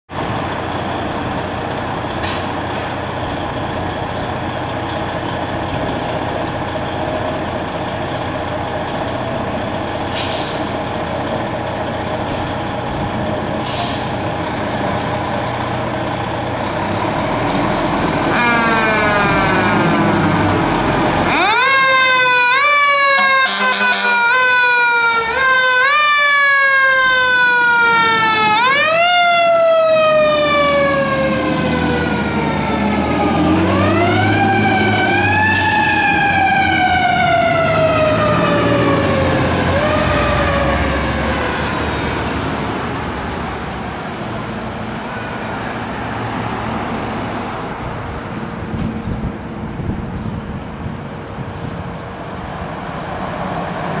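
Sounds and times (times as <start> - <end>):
engine noise: 0.1 - 54.0
street traffic: 0.1 - 54.0
fire engine siren wailing: 0.2 - 48.2.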